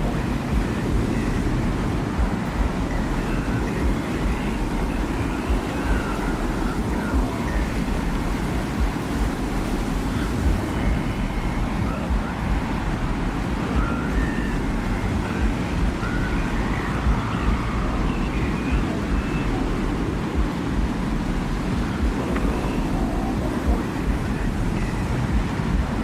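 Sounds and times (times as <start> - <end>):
low rumbling desert wind: 0.0 - 26.0.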